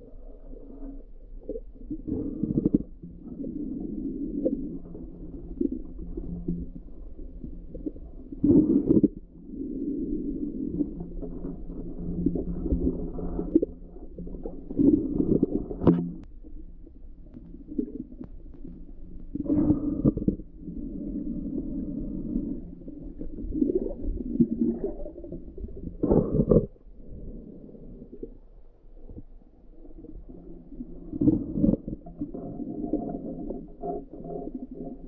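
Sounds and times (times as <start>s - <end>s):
underwater rumbling and sloshing: 0.0s - 35.0s.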